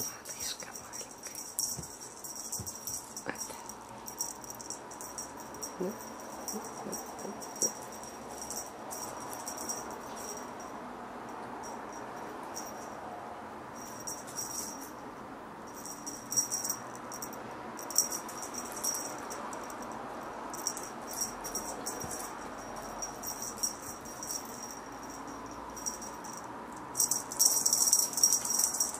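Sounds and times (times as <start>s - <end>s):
small bell jingling: 0.0s - 10.7s, 13.8s - 15.0s, 15.7s - 28.9s
steady background hiss: 0.0s - 28.9s.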